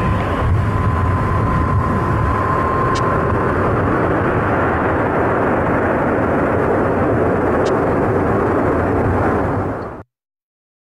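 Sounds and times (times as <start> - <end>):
high whine: 0.0 - 10.0
jet engine roar: 0.0 - 10.0.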